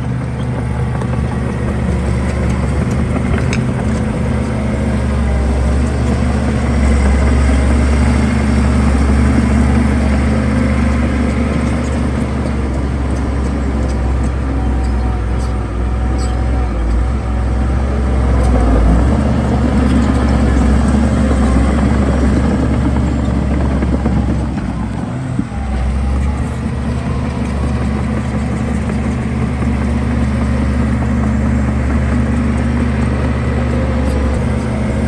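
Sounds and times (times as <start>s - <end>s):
heavy diesel engine under load: 0.0s - 35.0s.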